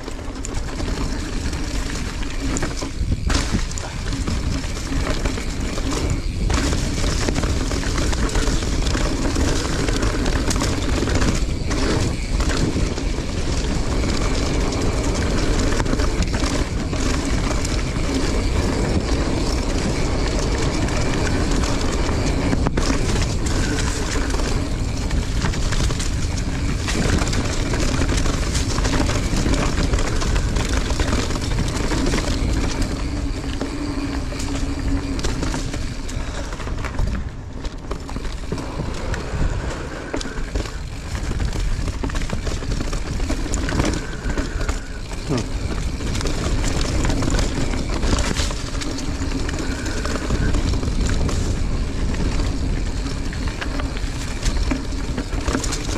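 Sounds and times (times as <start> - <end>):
bike frame and chain rattling: 0.0 - 55.9
tyres on dirt: 0.0 - 55.9
wind on microphone: 0.0 - 55.9.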